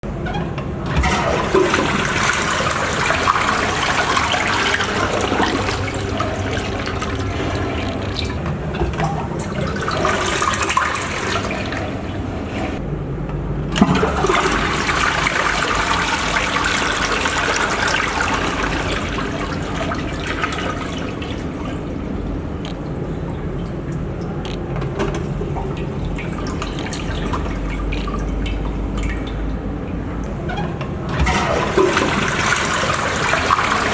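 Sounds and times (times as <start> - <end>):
rushing water: 0.8 - 12.8, 13.7 - 33.9.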